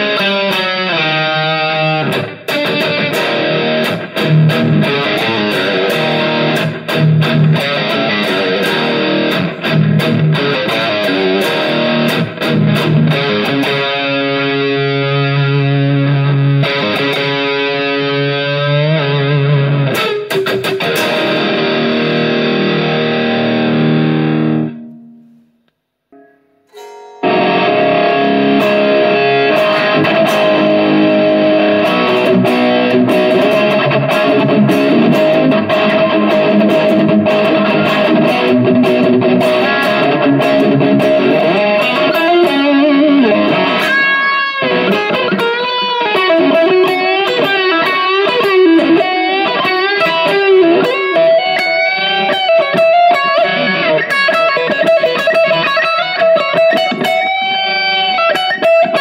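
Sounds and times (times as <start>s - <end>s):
electric guitar chords: 0.0s - 59.0s
electric guitar lead line: 0.0s - 59.0s.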